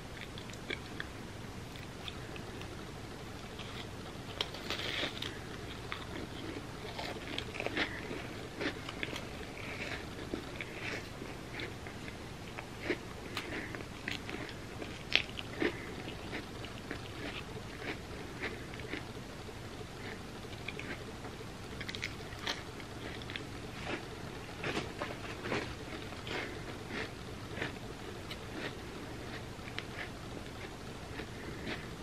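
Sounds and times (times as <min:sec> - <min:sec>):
chips crunching and chewing: 0:00.1 - 0:01.1, 0:03.4 - 0:19.1, 0:20.0 - 0:21.1, 0:21.7 - 0:32.0.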